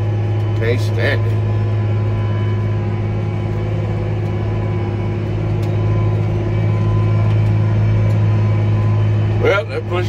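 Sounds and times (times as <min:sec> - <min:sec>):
tractor engine hum in cab: 0:00.0 - 0:10.0.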